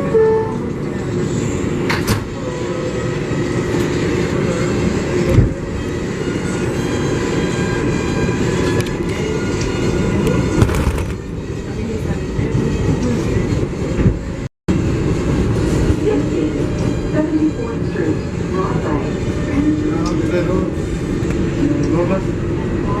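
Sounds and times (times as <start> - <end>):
wheels rumbling on rail: 0.0 - 23.0.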